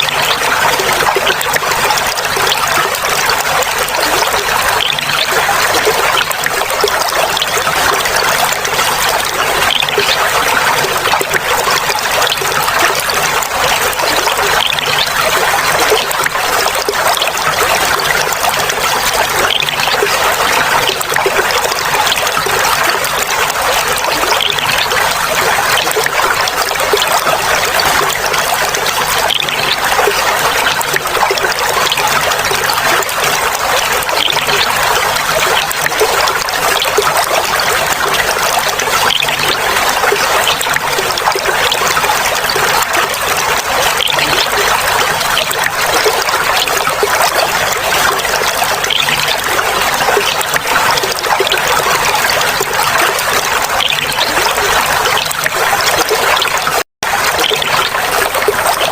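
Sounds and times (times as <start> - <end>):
water trickling over stones: 0.0 - 58.9.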